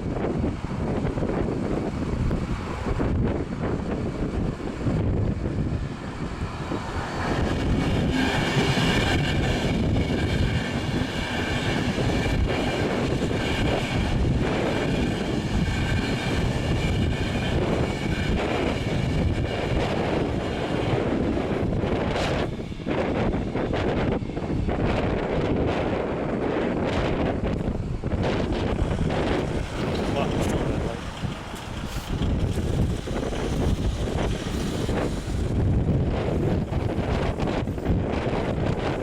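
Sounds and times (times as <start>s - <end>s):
train wheels on rails: 0.0s - 39.0s
wind noise on microphone: 0.0s - 39.0s.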